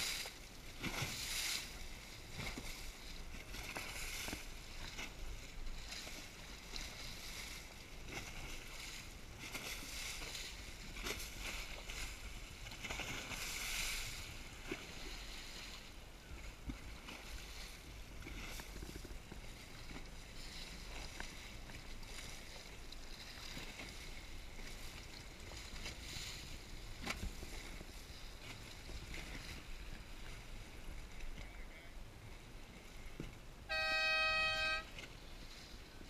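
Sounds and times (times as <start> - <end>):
sea water around a boat: 0.0 - 36.0
wind: 0.0 - 36.0.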